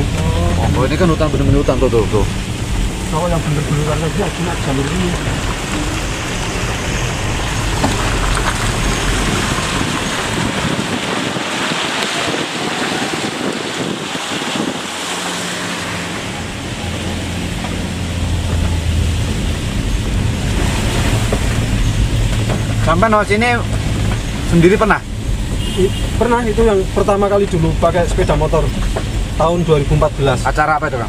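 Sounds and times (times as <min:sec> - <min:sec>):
low engine hum: 0:00.0 - 0:31.0
rushing road and wind noise: 0:00.0 - 0:31.0.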